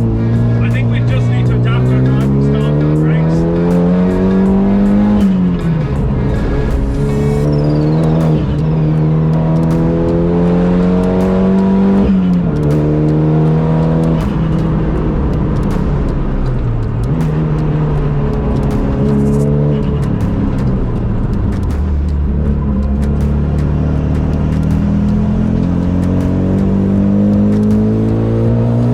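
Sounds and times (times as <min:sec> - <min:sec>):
turbocharged engine accelerating: 0:00.0 - 0:28.9.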